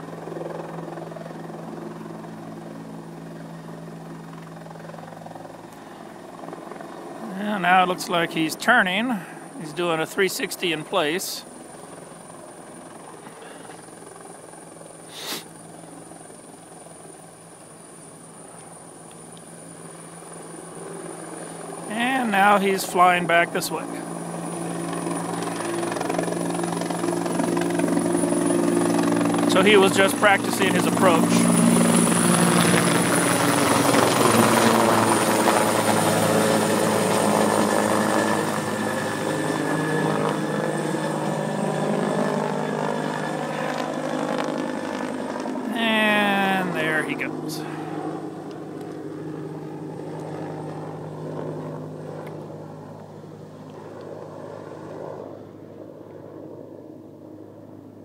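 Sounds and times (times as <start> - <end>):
distant helicopter drone: 0.0 - 58.0.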